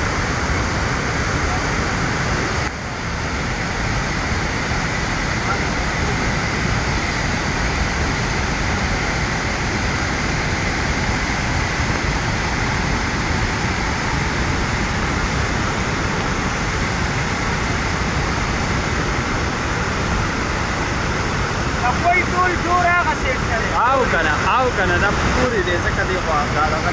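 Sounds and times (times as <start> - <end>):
floodwater rushing: 0.0 - 26.9.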